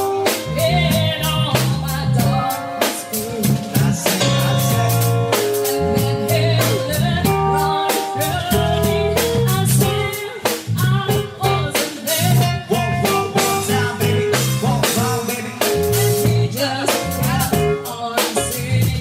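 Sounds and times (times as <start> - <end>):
drum kit beat: 0.0 - 19.0
guitar: 0.0 - 19.0
person singing: 0.0 - 19.0.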